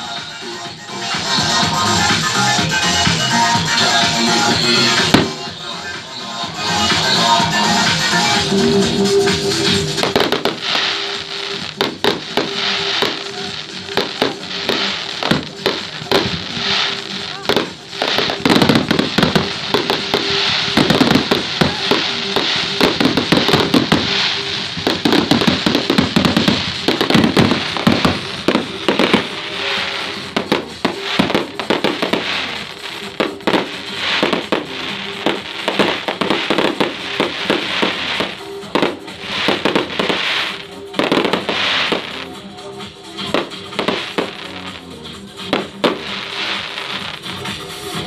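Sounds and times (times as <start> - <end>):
fireworks bursting and crackling: 0.0 - 48.0
music playing: 0.0 - 48.0.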